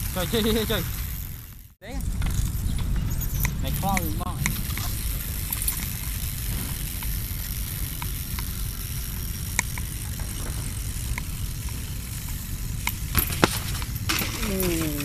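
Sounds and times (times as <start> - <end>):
bike tyres rolling on concrete: 0.0 - 15.0
light clicks and taps from bike: 0.1 - 15.0.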